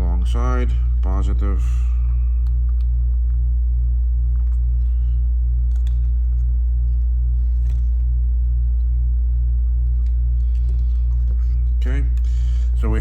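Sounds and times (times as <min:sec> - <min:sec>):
air conditioner humming and throbbing: 0:00.0 - 0:13.0.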